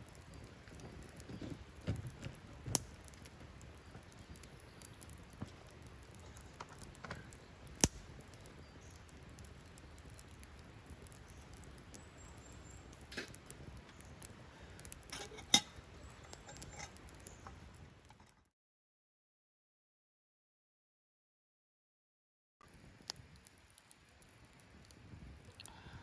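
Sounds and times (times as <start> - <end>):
sharp fire pops: 0.0 - 18.3, 22.6 - 26.0
campfire crackling: 0.0 - 18.4, 22.6 - 26.0.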